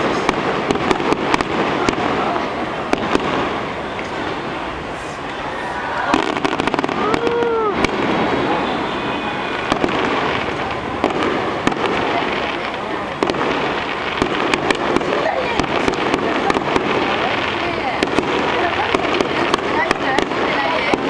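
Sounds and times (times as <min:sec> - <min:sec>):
fireworks bursting: 0:00.0 - 0:21.0
fireworks rumble and crackle: 0:00.0 - 0:21.0.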